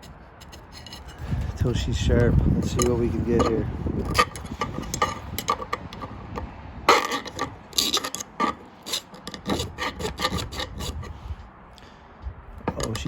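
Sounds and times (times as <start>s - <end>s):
file scraping steel edge: 0.0s - 1.6s, 2.2s - 11.3s.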